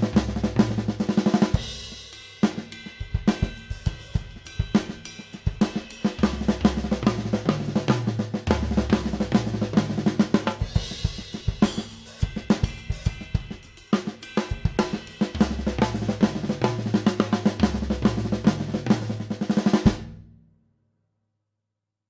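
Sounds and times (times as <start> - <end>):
drum kit groove: 0.0 - 20.2.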